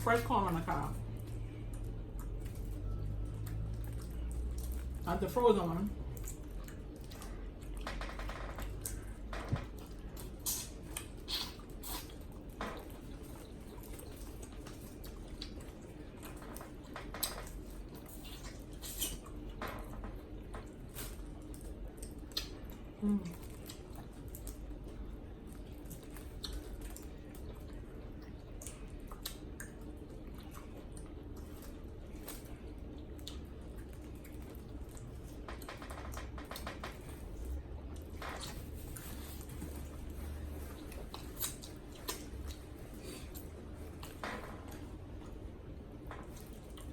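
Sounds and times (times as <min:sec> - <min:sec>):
steady low hum: 0:00.0 - 0:46.9
wet chewing and food handling: 0:00.0 - 0:46.9.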